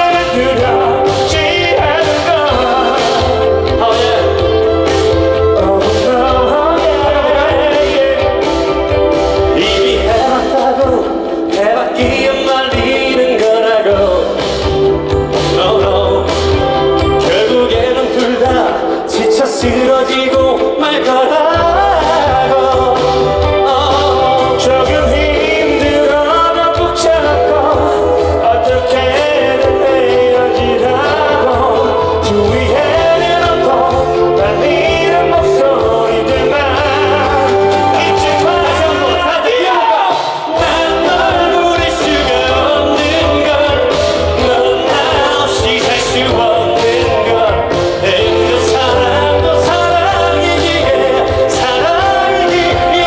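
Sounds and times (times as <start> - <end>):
man singing: 0.0 - 53.0
pop backing track: 0.0 - 53.0.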